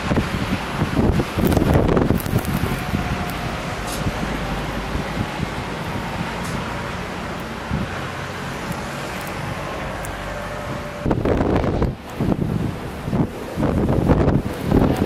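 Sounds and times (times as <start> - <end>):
road traffic: 0.0 - 15.0
storm wind: 0.0 - 15.0
wind gust buffeting microphone: 0.0 - 15.0.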